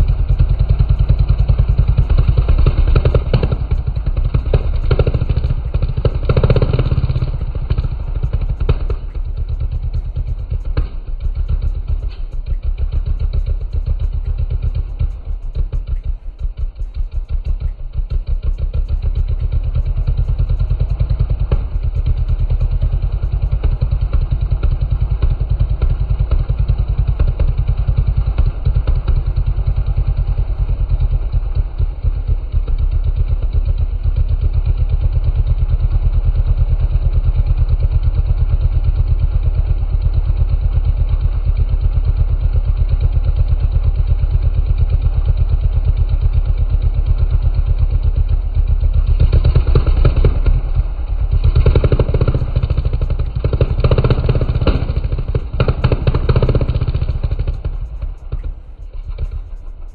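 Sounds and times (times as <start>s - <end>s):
motorbike engine idling: 0.0s - 59.9s.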